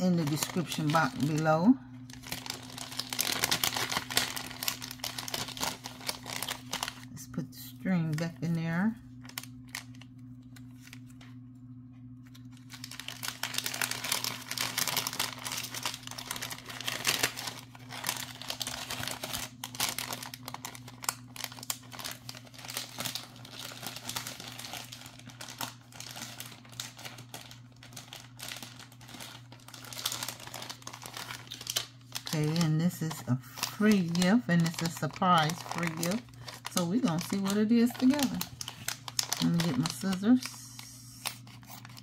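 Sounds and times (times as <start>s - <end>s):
plastic packaging crinkling: 0.0s - 7.2s, 7.8s - 11.5s, 12.1s - 42.0s
low steady hum: 0.0s - 42.0s.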